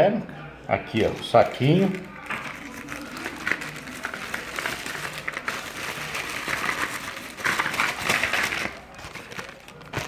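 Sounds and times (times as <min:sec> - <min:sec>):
plastic packaging crinkling: 0:00.9 - 0:10.0.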